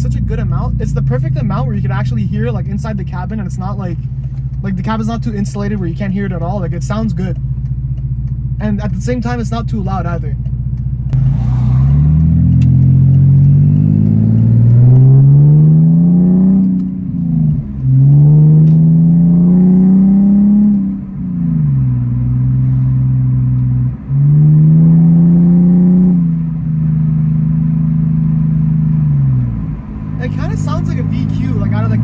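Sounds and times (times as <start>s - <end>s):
car exhaust accelerating: 0.0s - 32.0s.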